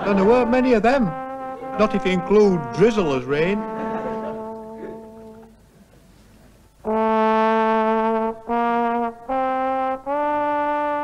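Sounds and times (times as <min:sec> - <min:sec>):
brass melody of long notes: 0:00.0 - 0:05.6, 0:06.8 - 0:11.0.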